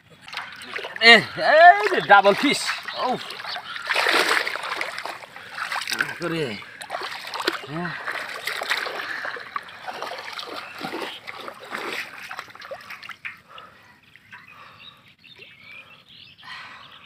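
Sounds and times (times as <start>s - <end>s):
shallow water splashing: 0.0s - 14.4s.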